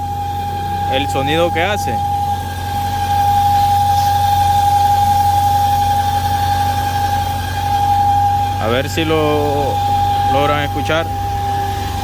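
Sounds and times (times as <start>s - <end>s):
car engine idling: 0.0s - 12.0s
high whistle: 0.0s - 12.0s.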